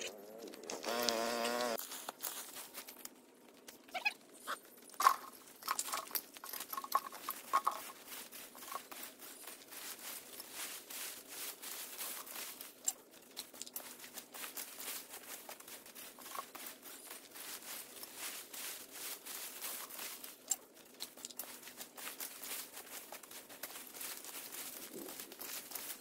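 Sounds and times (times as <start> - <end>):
rustling of dry vegetation: 0.0 - 26.0.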